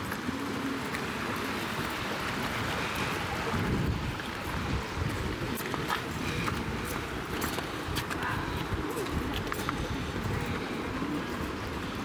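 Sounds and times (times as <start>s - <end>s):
wind rushing over microphone: 2.4s - 12.0s.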